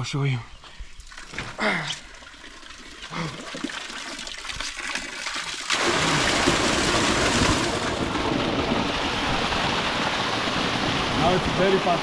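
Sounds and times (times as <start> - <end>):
water gushing: 1.1 - 12.0.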